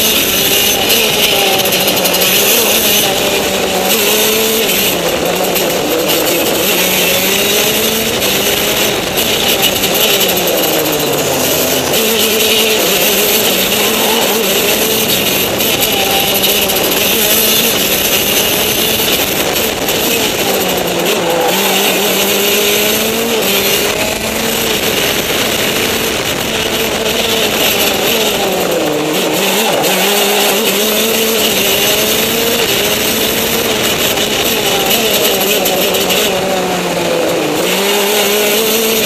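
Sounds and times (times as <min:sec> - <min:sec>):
go-kart engine revving: 0:00.0 - 0:39.0.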